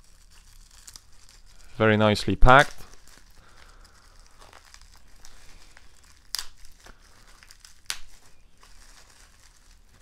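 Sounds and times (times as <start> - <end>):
bubble wrap crinkling: 0.0 - 10.0
sharp bubble wrap crackles: 0.0 - 10.0.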